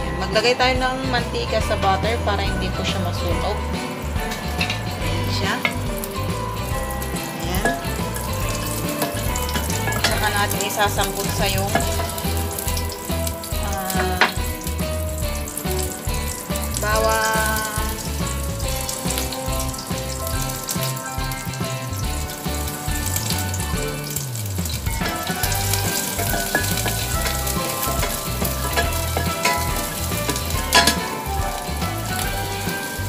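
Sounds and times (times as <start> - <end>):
garlic sizzling in oil: 1.1 - 33.0
wooden spoon stirring: 2.8 - 33.0.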